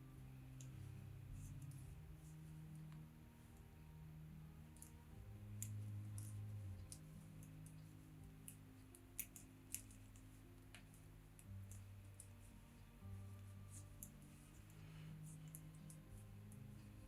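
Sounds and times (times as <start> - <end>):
quiet background music: 0.0 - 17.0
knitting needles clicking: 0.4 - 3.7, 4.6 - 17.0.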